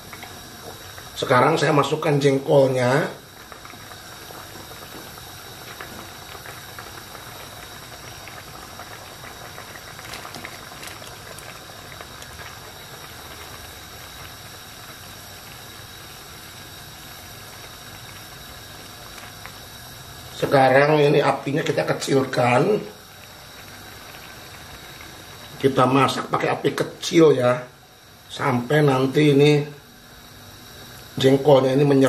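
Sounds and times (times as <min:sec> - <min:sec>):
thick sauce bubbling in a pan: 0:00.0 - 0:27.0.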